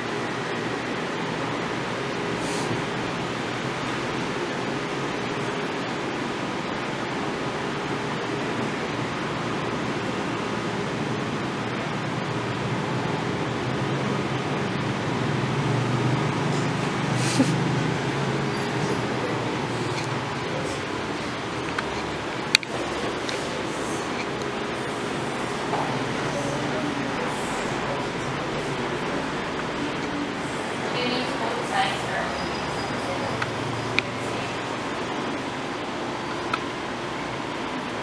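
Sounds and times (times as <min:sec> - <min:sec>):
faint low murmur: 0:00.0 - 0:36.3
steady background hiss: 0:00.0 - 0:38.0.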